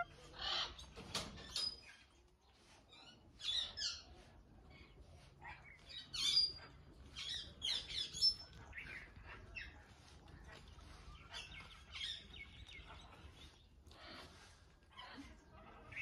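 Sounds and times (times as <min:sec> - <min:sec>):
parakeets chirping and chattering: 0:00.0 - 0:16.0.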